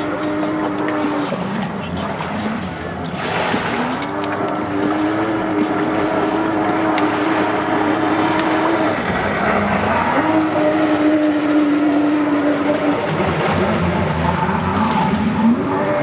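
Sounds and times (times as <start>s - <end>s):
jet ski engine revving: 0.0s - 16.0s.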